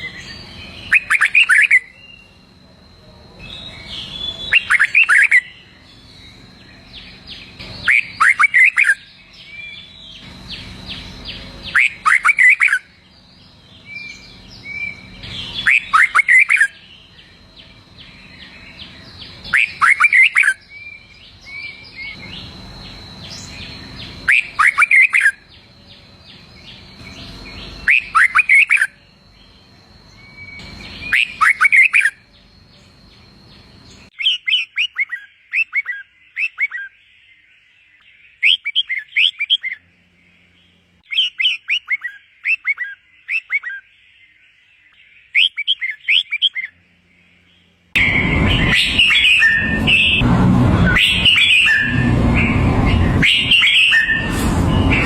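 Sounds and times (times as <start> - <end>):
bird chirping song: 0.0 - 55.0.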